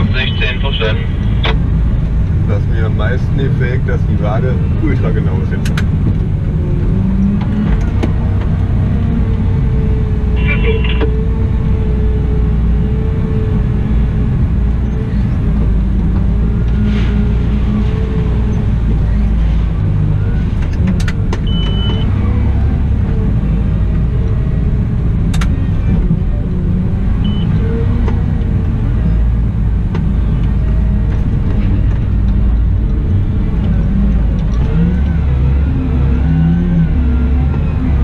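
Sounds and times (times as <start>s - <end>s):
wheel loader diesel engine: 0.0s - 38.0s.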